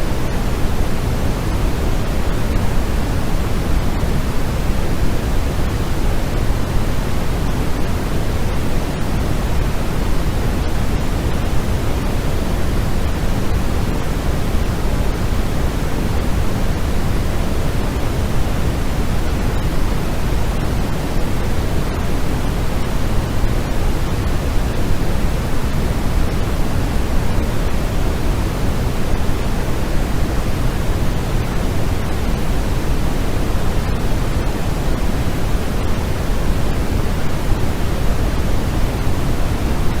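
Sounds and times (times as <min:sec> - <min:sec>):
white noise hiss: 0:00.0 - 0:40.0.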